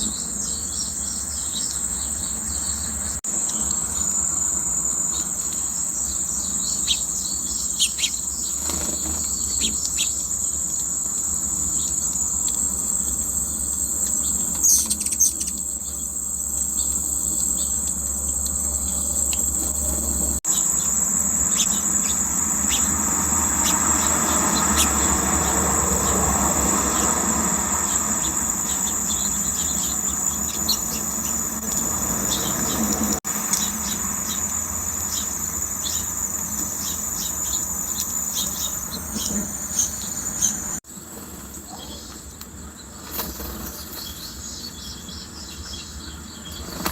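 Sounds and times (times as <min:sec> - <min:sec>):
bird chirps: 0:00.0 - 0:10.9, 0:13.5 - 0:40.8
insect chorus: 0:00.0 - 0:46.9.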